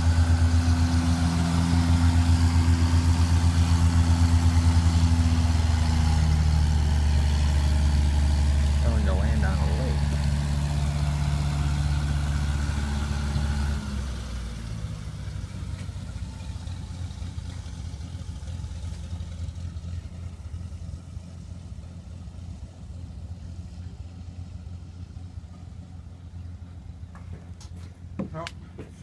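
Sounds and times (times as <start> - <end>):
propeller plane engine drone: 0.0 - 29.0.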